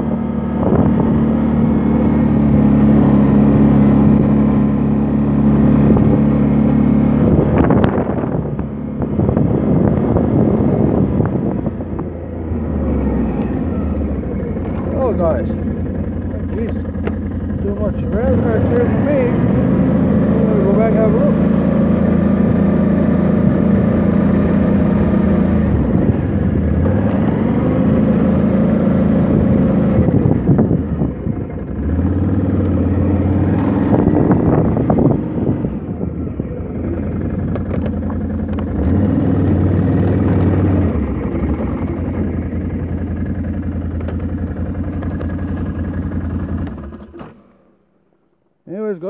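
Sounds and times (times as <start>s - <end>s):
snowmobile engine running: 0.0s - 47.8s.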